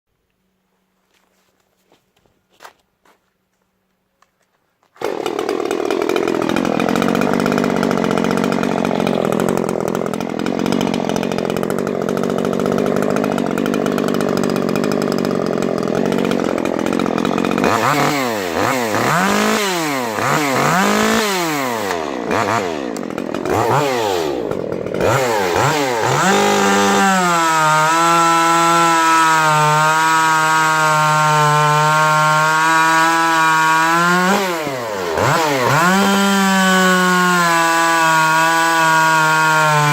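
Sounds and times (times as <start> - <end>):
chainsaw revving: 5.0 - 39.9.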